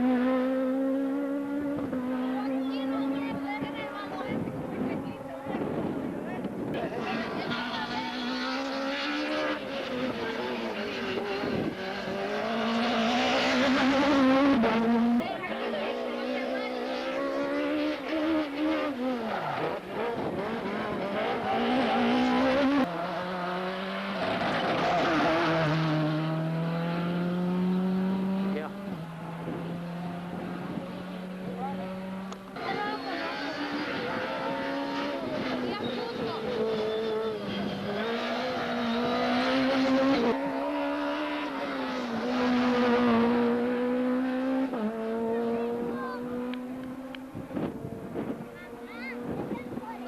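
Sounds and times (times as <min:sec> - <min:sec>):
rally car engine revving: 0:00.0 - 0:50.0.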